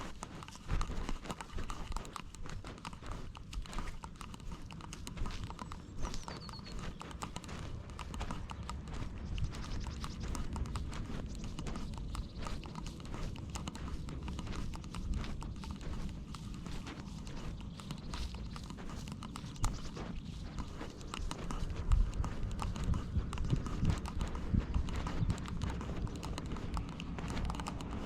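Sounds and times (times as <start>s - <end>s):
cat's steps: 0.0s - 28.0s.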